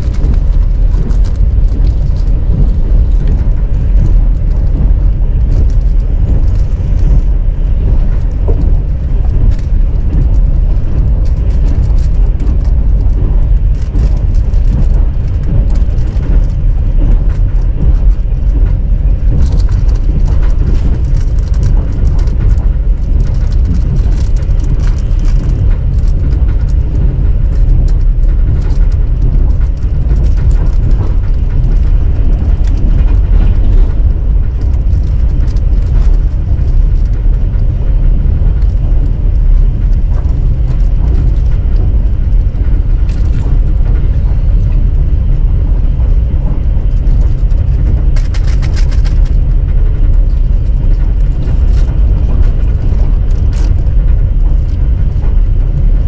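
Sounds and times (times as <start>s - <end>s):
faint clicks and rattles: 0.0s - 56.0s
vehicle rumble from on board: 0.0s - 56.0s.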